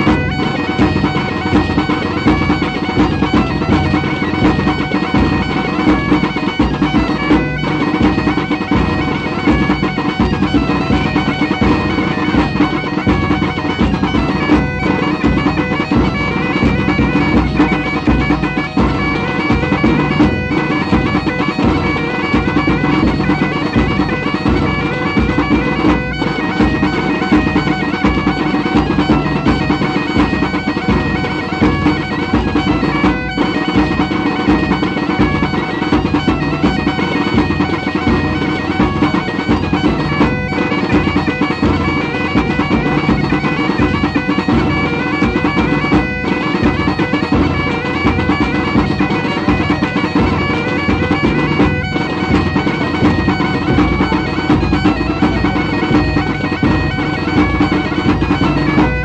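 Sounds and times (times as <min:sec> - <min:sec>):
bagpipe playing folk dance tune: 0:00.0 - 0:59.0.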